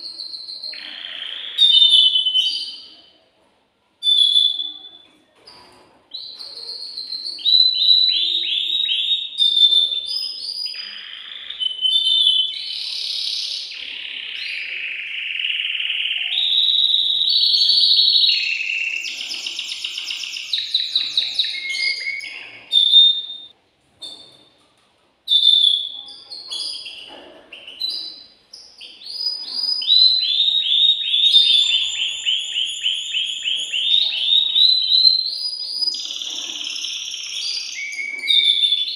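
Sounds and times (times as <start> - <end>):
canary singing: 0.0 - 3.2, 4.0 - 5.2, 6.1 - 24.5, 25.3 - 38.9.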